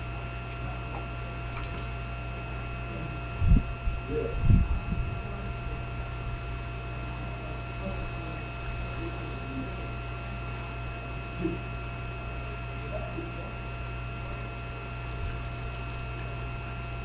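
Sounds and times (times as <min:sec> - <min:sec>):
steady hum with high whine: 0:00.0 - 0:17.0.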